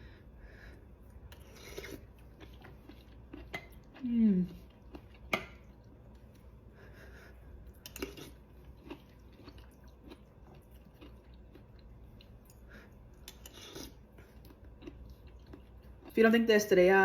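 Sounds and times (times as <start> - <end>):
person chewing food: 0.1 - 16.2.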